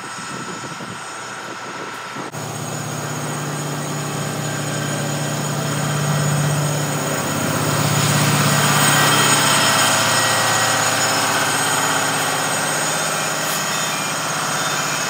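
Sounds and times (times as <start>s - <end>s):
diesel locomotive engine humming: 0.0s - 15.0s
train wheels rolling on track: 0.0s - 15.0s.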